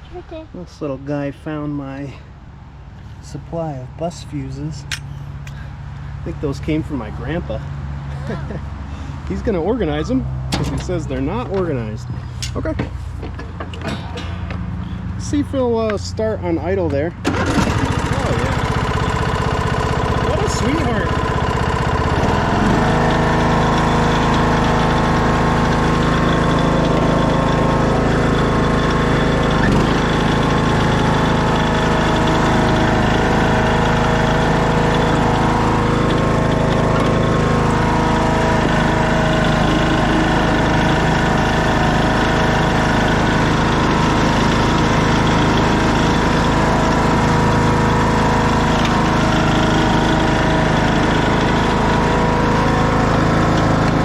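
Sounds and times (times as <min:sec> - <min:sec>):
lawn tractor engine idling: 0:08.3 - 0:54.0.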